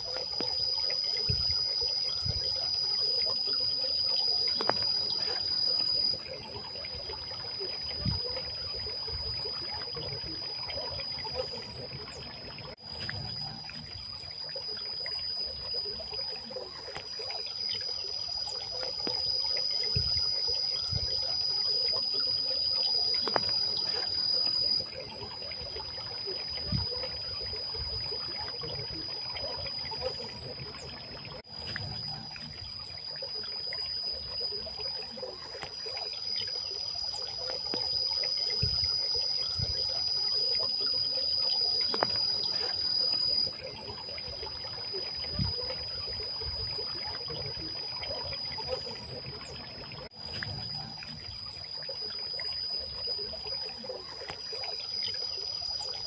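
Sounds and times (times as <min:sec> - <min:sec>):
insects whining: 0:00.0 - 0:56.0.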